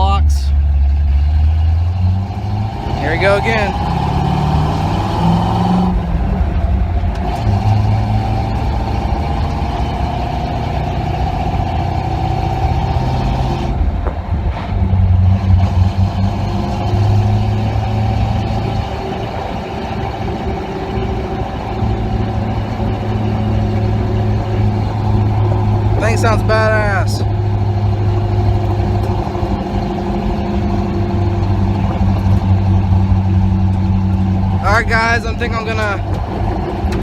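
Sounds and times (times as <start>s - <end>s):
pickup truck engine exhaust: 0.0s - 37.0s.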